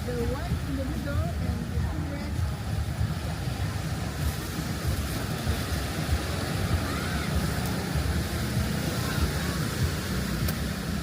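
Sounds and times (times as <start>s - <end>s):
surf rushing: 0.0s - 11.0s.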